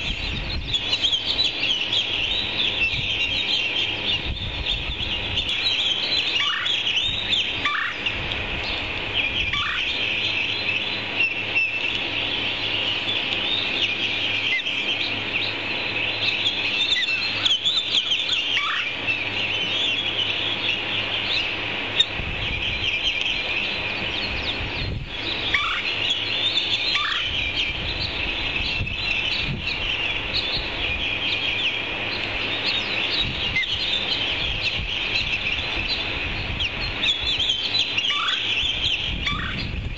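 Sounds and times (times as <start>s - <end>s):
downward-sliding bird calls: 0.0s - 39.8s
birds chirping rapidly: 0.0s - 39.9s
steady low rumble: 0.0s - 39.9s.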